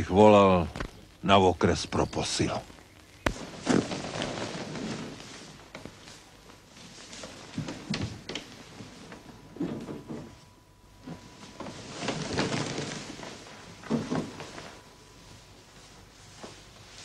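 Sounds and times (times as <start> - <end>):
bedding rustling: 3.2 - 17.0.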